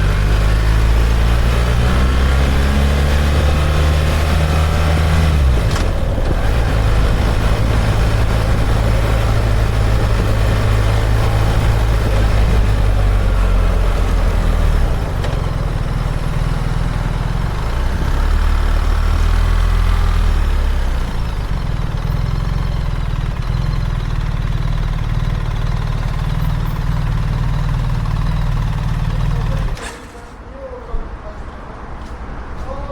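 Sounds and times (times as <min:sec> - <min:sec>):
motorcycle engine running: 0:00.0 - 0:30.2.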